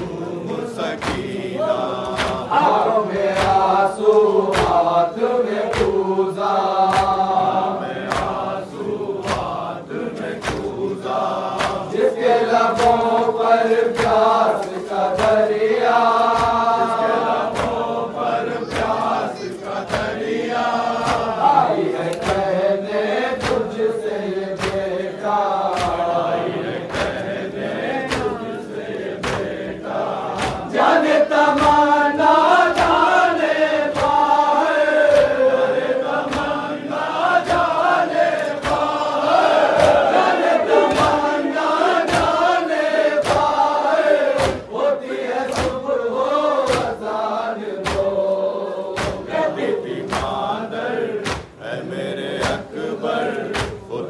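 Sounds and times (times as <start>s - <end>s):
crowd of men chanting a lament: 0.0s - 54.0s
rhythmic chest-beating slaps: 0.0s - 54.0s.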